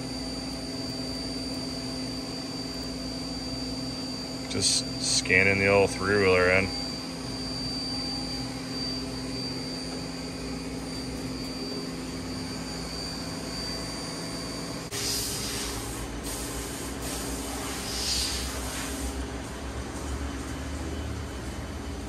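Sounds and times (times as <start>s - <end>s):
fans and ventilation hum: 0.0s - 22.0s
thin high whine: 0.0s - 22.0s.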